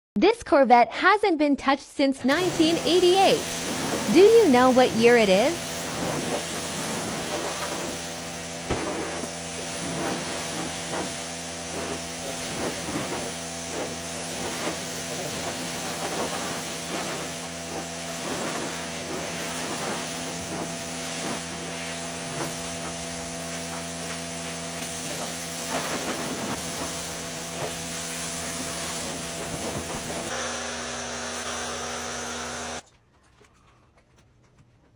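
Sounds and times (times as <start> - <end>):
spraying machine hissing: 2.2 - 32.8.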